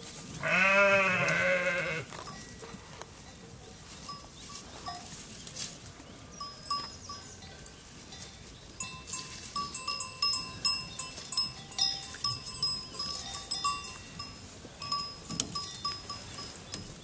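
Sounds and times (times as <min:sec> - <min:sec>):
sheep bells clinking: 0:00.4 - 0:05.4, 0:06.3 - 0:17.0.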